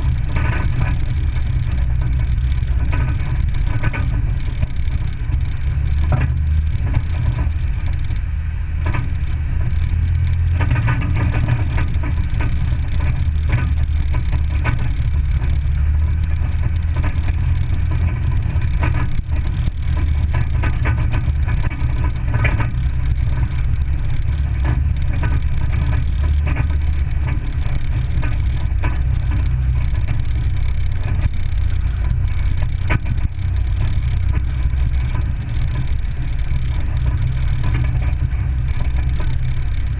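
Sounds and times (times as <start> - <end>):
engine and tyres rumbling on gravel: 0.0 - 39.9
small ticks and rattles: 0.0 - 39.9.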